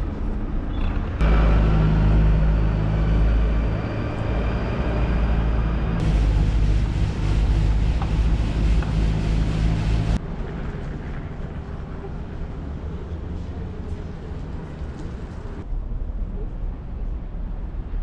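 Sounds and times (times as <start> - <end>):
street background noise: 0.0 - 18.0
vehicle engine rumble: 0.0 - 18.0.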